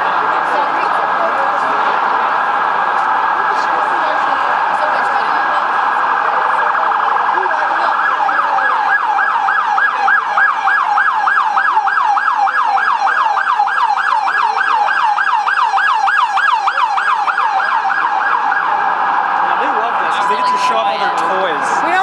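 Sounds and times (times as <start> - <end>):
police siren yelping: 0.0 - 22.0.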